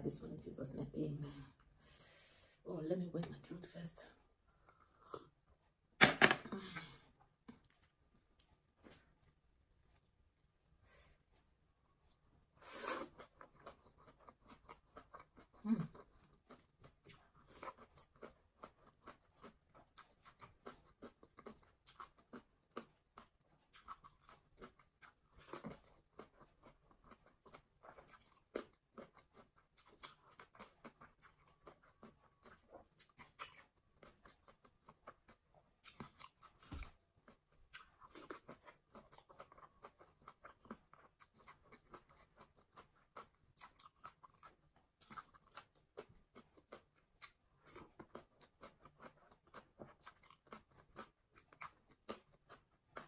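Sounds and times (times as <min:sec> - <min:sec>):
chewing crunchy food: 0:06.9 - 0:10.4, 0:12.0 - 0:53.0.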